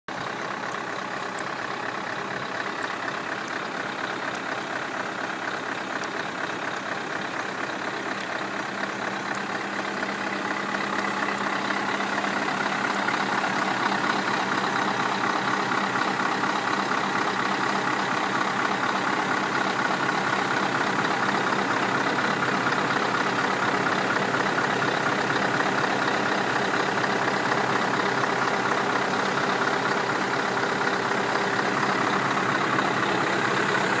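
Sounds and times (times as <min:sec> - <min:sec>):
diesel engine idling: 0:00.1 - 0:34.0.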